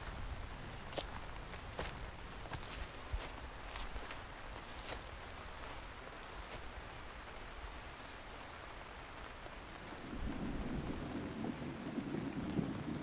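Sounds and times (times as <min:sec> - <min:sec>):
rain-like outdoor hiss: 0:00.0 - 0:13.0.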